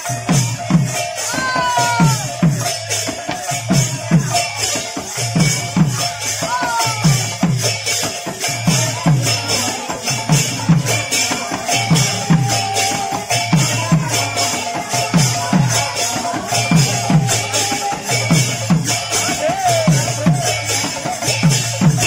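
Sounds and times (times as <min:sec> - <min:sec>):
high metallic jingling: 0:00.0 - 0:22.0.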